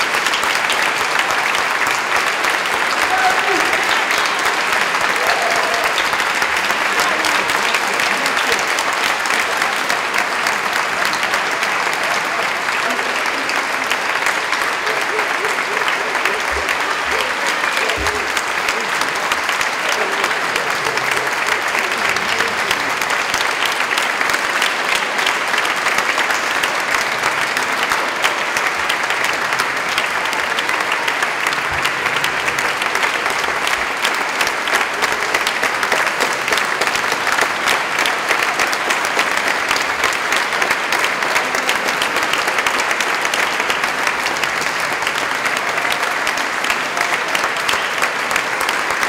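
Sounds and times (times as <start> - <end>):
audience applause: 0.0 - 49.0.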